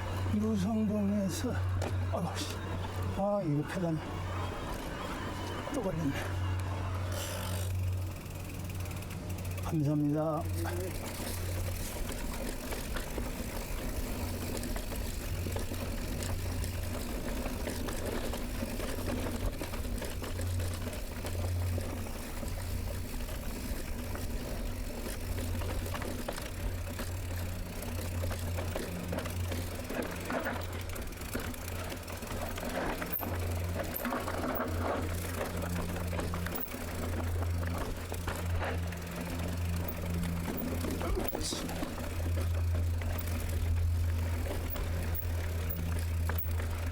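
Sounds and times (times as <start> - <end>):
bike drivetrain and tyre noise: 0.0 - 46.9
low mechanical hum: 0.0 - 46.9.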